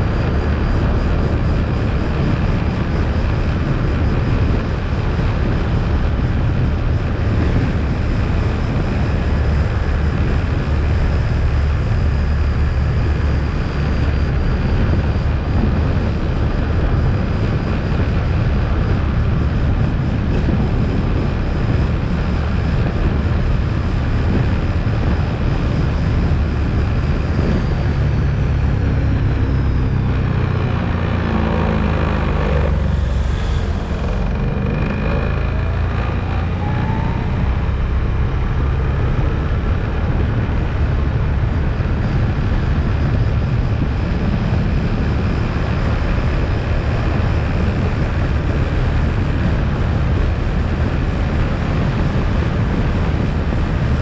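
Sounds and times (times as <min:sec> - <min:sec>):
atv engine droning: 0:00.0 - 0:54.0.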